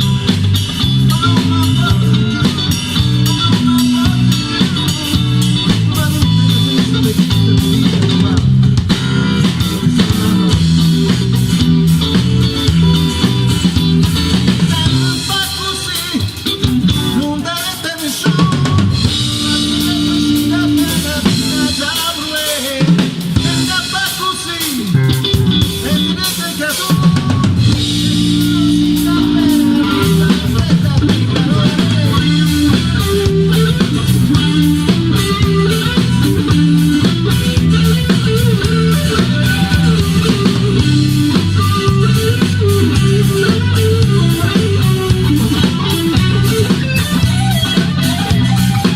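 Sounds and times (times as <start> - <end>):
band music: 0.0 - 48.9
drum kit beat: 0.0 - 48.9.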